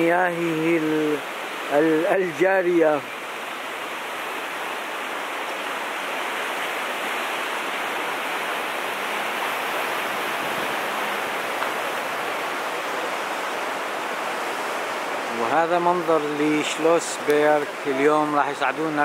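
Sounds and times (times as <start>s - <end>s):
river water rushing over riffles: 0.0s - 19.0s.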